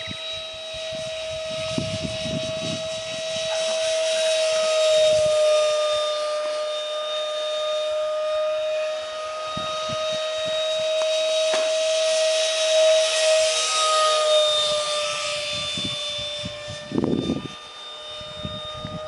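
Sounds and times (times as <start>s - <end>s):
model jet ducted fan whining: 0.0s - 19.0s.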